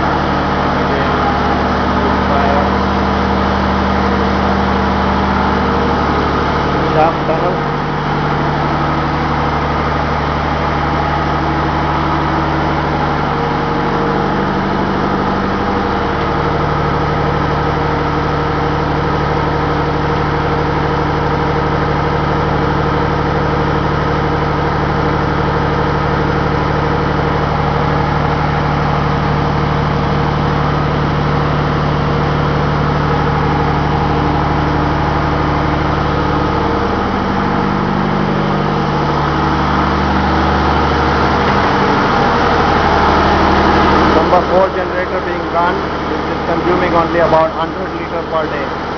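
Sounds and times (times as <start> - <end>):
constant hum tones: 0.0 - 48.9
deep hum: 0.0 - 48.9
engine room machinery din: 0.0 - 48.9.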